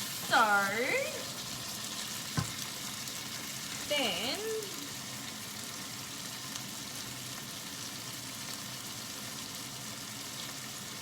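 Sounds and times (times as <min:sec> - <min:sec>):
chicken and onion frying in pan: 0:00.0 - 0:11.0.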